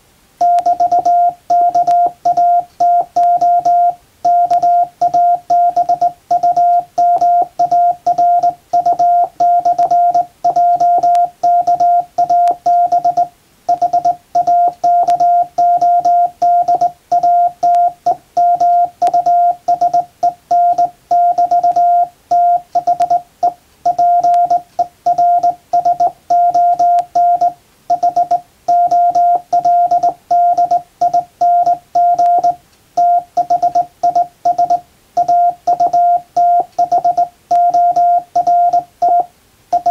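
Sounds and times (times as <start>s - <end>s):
morse code beeps: 0.4s - 39.9s.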